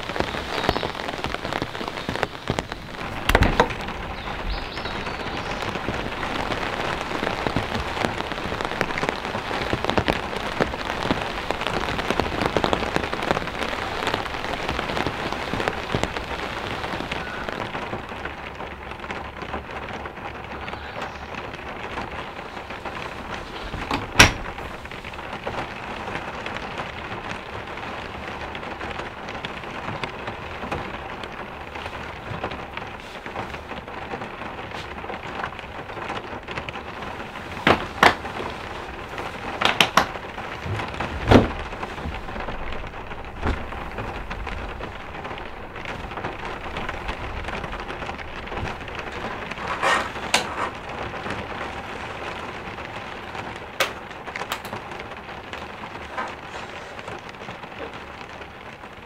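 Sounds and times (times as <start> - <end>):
rain on roof: 0.0 - 59.0.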